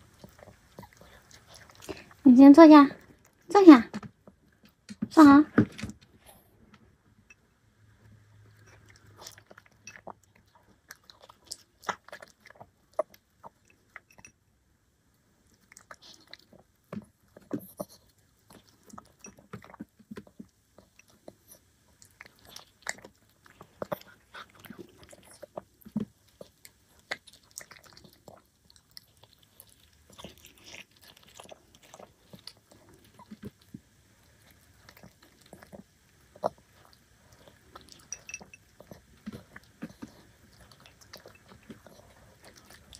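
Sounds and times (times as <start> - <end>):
dog chewing food: 0.0 - 2.2, 8.5 - 14.3, 15.5 - 42.9.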